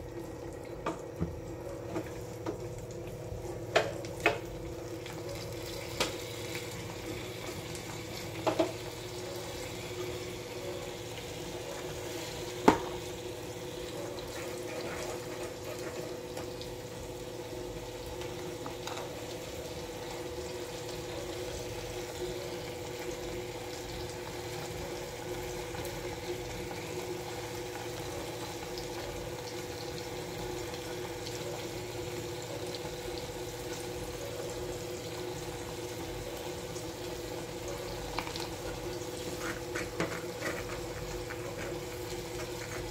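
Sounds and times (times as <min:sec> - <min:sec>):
curry bubbling in a pan: 0:00.2 - 0:42.9.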